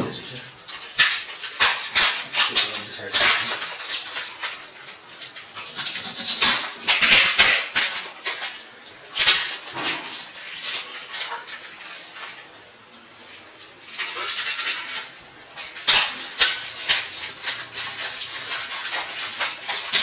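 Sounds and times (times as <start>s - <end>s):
plastic packaging crinkling: 0.0s - 12.6s, 13.2s - 20.0s.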